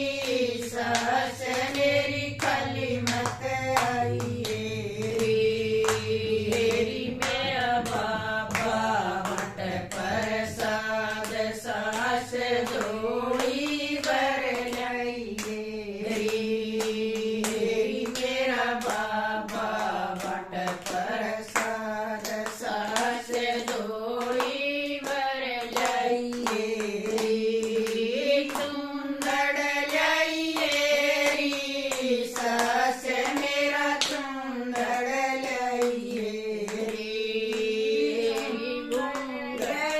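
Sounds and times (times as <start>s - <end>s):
hands clapping in rhythm: 0.0s - 39.9s
women singing devotional song: 0.0s - 39.9s.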